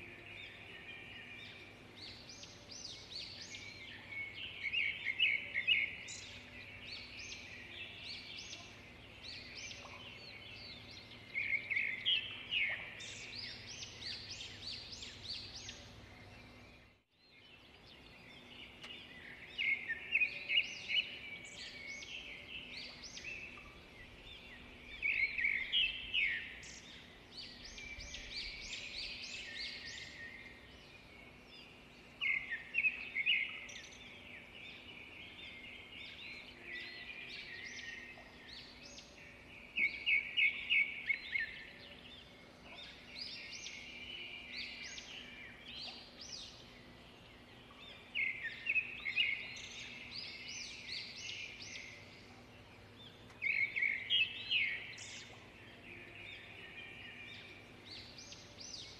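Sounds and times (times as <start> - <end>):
songbird chirping: 0.0 - 58.9.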